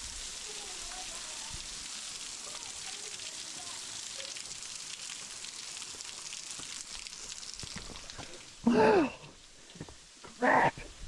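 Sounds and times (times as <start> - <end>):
waterfall spray hissing: 0.0 - 11.0.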